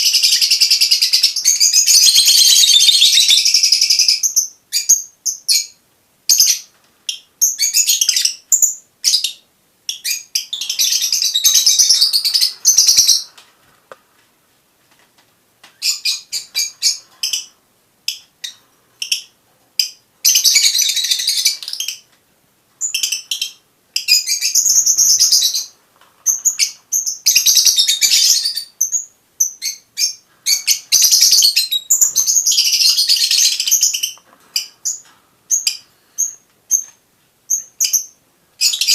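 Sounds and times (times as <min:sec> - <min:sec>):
lovebirds chattering and chirping: 0:00.0 - 0:13.5, 0:15.8 - 0:22.1, 0:22.8 - 0:38.9.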